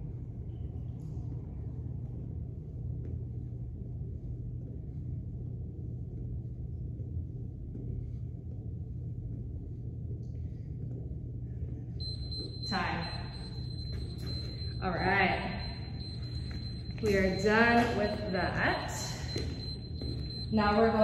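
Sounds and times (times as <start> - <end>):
faint rumble: 0.0 - 21.0
steady low hum: 0.0 - 21.0.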